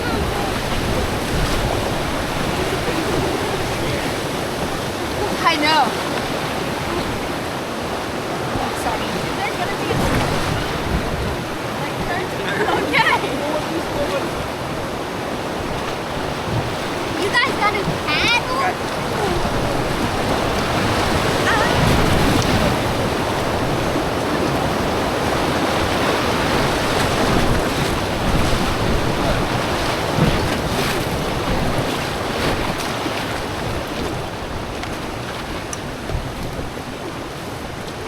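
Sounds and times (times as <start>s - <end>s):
river rapids roaring: 0.0s - 38.0s
wind buffeting microphone: 0.0s - 38.0s.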